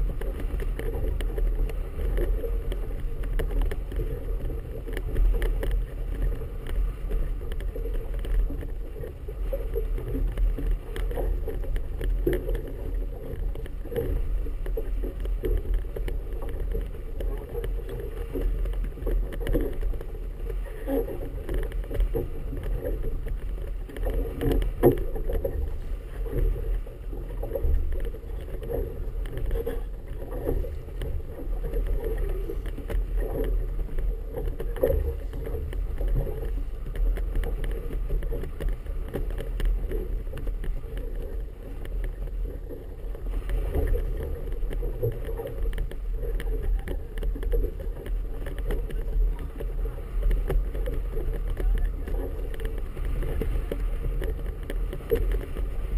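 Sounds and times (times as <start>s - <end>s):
water slapping against boat hull: 0.0s - 55.9s.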